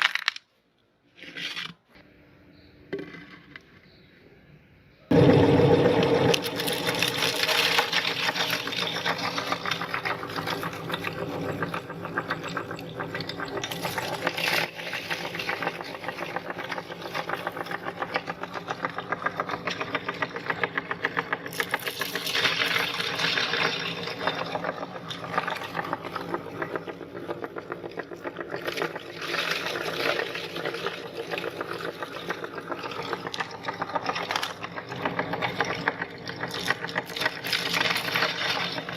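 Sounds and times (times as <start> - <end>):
hard candy crackling in grinder: 0.0 - 0.4, 5.1 - 38.9
meat grinder motor humming: 5.1 - 38.9.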